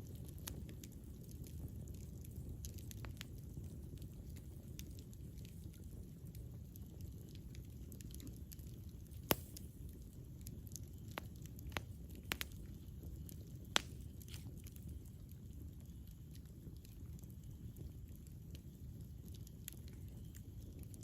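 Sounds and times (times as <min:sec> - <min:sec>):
campfire rumble: 0:00.0 - 0:21.0
wood crackling and popping: 0:00.0 - 0:21.0.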